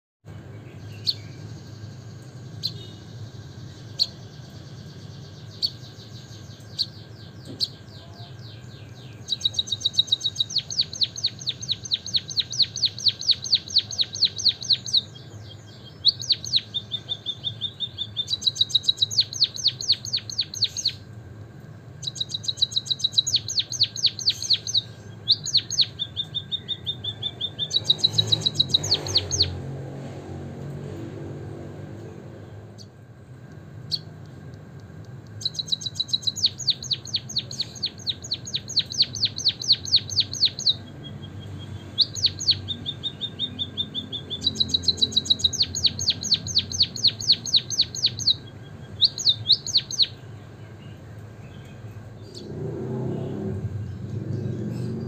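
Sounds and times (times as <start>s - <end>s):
bird chirps: 0.3s - 21.1s, 22.0s - 29.9s, 33.8s - 55.0s.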